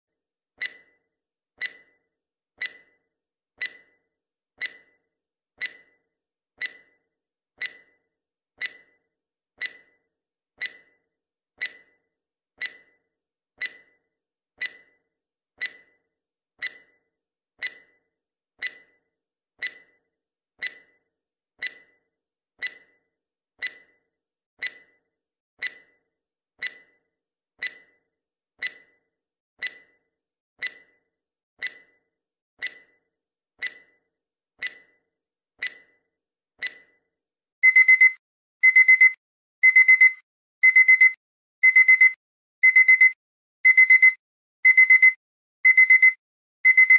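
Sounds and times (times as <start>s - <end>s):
clock-like timer ticks: 0.6s - 9.0s, 9.6s - 12.0s, 12.6s - 46.9s.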